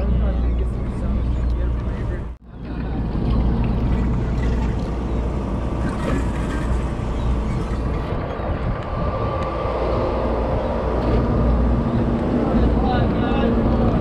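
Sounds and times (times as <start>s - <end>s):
boat engines droning: 0.0s - 14.0s.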